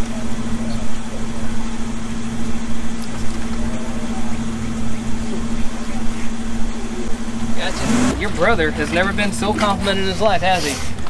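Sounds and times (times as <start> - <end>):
motor running steadily: 0.0 - 11.0.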